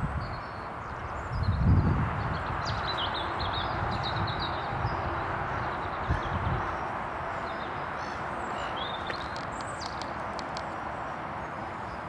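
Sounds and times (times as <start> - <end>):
outdoor background hiss: 0.0 - 12.0
songbirds chirping: 0.0 - 12.0.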